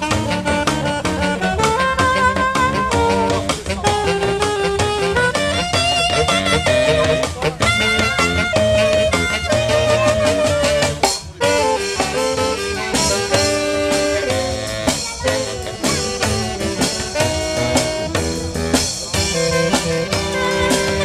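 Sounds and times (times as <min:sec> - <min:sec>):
drums: 0:00.0 - 0:21.0
live jazz band: 0:00.0 - 0:21.0
saxophones and brass melody: 0:00.0 - 0:21.0.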